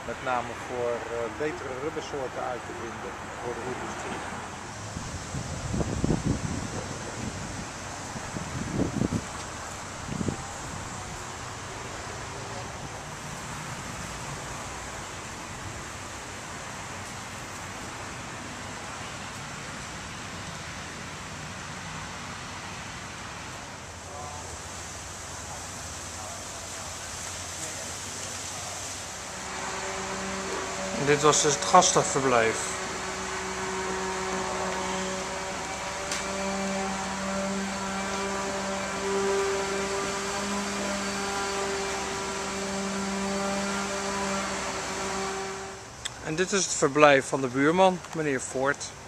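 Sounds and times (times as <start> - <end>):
outdoor background rush: 0.0 - 49.0.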